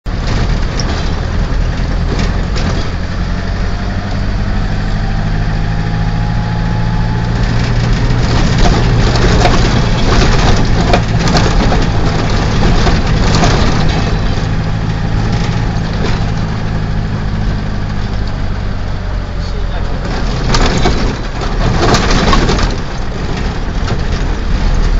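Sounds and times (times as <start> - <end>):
road noise: 0.0 - 24.9
vehicle engine running: 0.0 - 24.9
knocks and rattles: 0.1 - 24.9.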